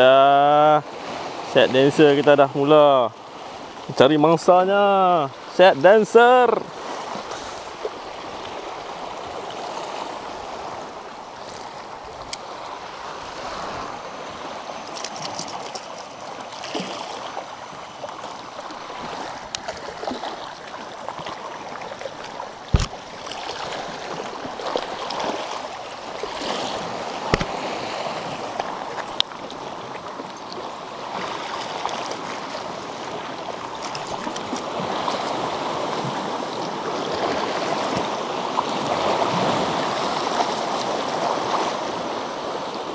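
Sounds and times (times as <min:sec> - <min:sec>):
waves washing against rocks: 0:00.0 - 0:42.9.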